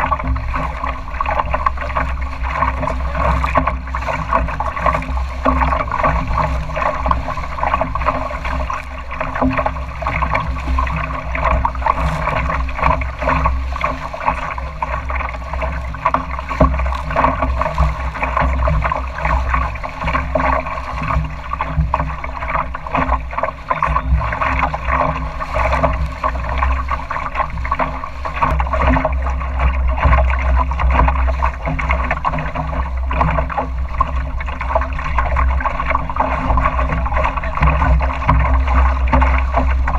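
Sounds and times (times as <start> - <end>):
water splashing along hull: 0.0 - 39.9
wind rumble on microphone: 0.0 - 39.9.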